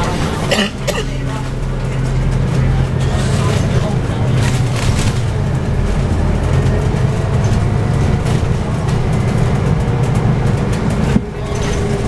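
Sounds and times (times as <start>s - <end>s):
bus engine low rumble: 0.0s - 12.0s
faint drivetrain whine: 0.0s - 12.0s.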